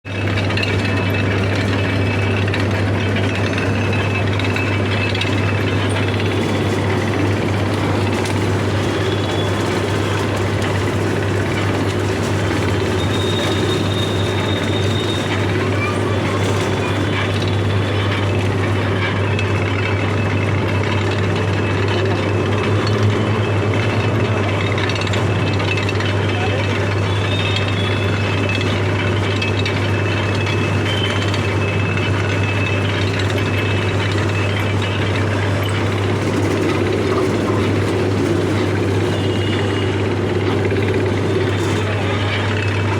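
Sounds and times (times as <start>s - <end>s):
juice machine humming and rattling: 0.0s - 42.9s.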